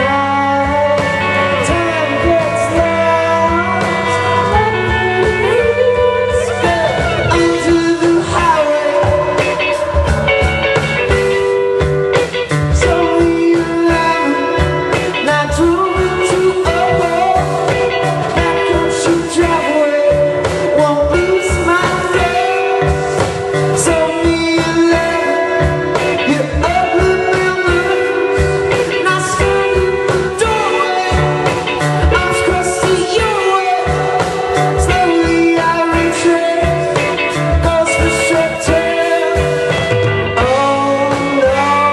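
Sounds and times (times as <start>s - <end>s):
bass guitar: 0.0s - 41.9s
electric guitar: 0.0s - 41.9s
person singing: 0.0s - 41.9s
steady drum beat: 0.0s - 41.9s.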